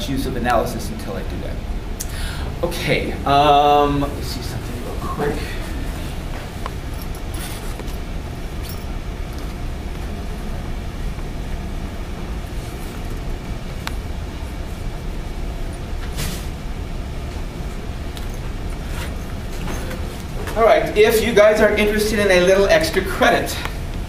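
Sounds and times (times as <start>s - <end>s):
classroom background rumble: 0.0s - 24.0s.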